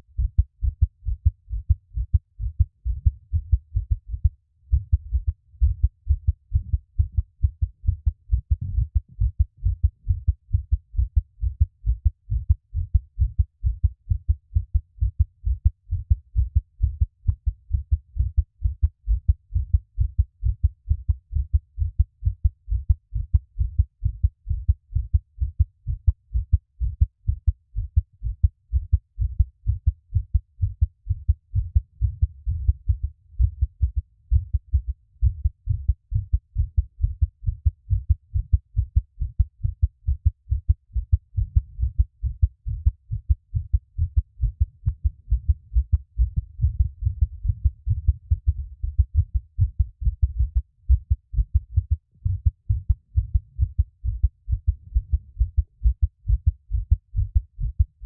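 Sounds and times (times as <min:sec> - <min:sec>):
heartbeat thumps: 0:00.1 - 0:58.0.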